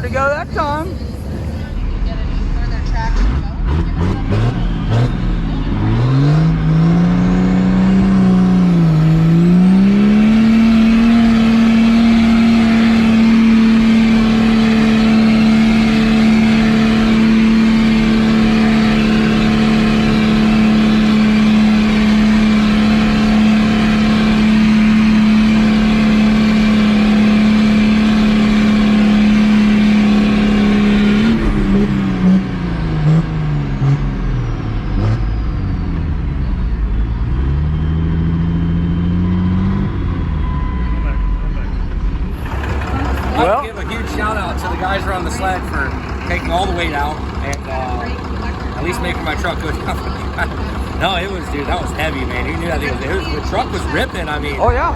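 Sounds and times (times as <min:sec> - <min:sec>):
diesel truck engine at full throttle: 0:00.0 - 0:54.9.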